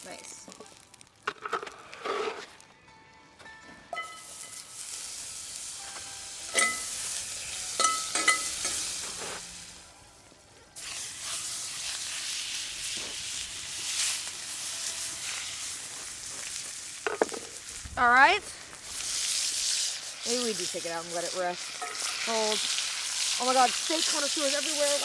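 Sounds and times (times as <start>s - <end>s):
steak sizzling on a grill: 0.0s - 2.2s, 4.0s - 25.0s.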